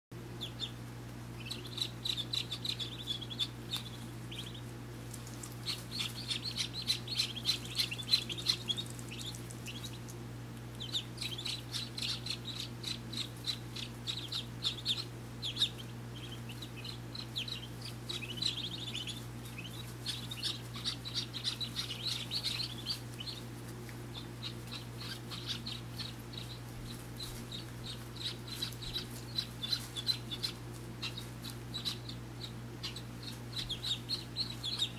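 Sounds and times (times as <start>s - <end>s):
ducklings peeping: 0.2s - 34.9s
steady low hum: 0.2s - 34.9s.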